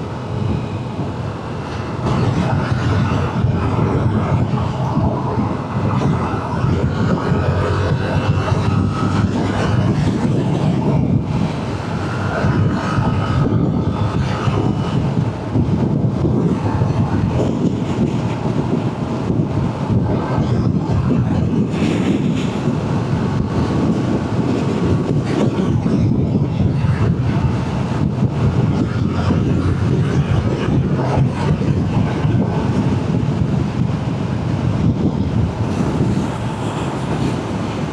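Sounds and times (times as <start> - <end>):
motorcycle engine drone: 0.0 - 37.9
wind rushing over microphone: 0.0 - 37.9.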